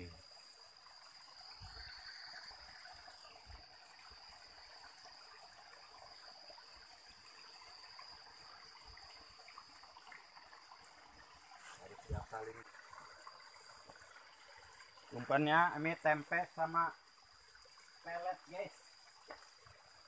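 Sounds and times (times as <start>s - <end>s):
water trickling into stream pool: 0.0s - 20.0s.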